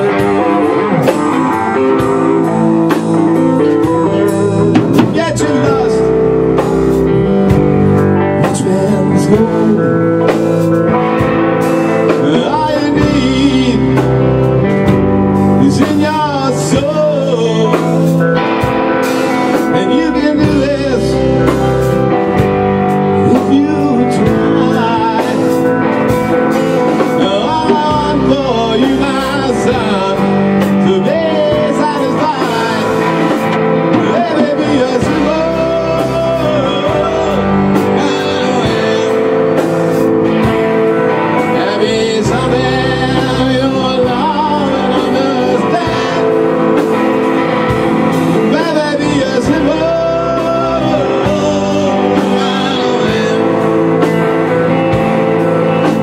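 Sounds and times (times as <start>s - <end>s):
drum kit: 0.0s - 56.0s
electric guitars: 0.0s - 56.0s
person singing: 0.0s - 56.0s.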